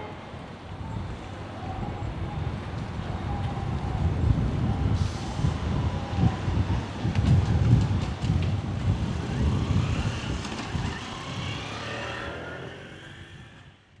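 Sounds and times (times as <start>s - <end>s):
electric train rumble: 0.0s - 11.8s.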